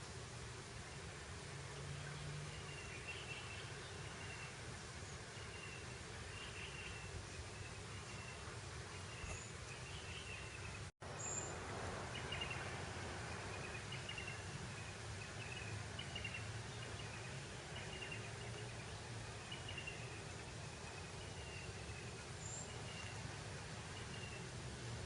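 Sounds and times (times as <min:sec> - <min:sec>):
steady breeze: 0:00.0 - 0:25.0.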